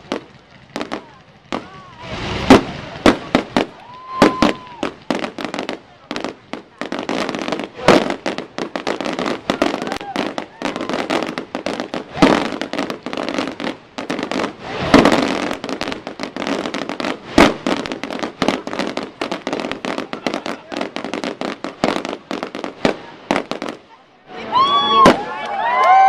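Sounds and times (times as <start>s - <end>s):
firework shells bursting: 0.0s - 23.9s
loud firework bangs: 0.0s - 24.0s
fireworks crackling and popping: 0.0s - 26.0s.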